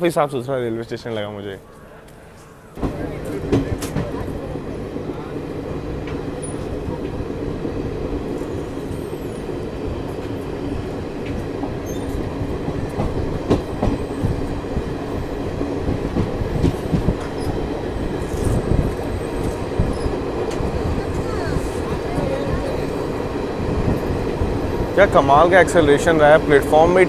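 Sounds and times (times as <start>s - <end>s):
train wheels rumbling on rail: 2.7s - 27.0s.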